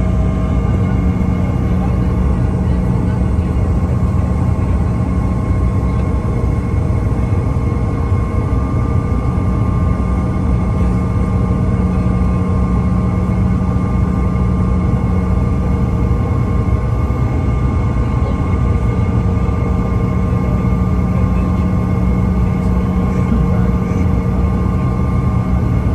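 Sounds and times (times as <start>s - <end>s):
jet engine rumble: 0.0s - 25.9s
steady whine: 0.0s - 25.9s.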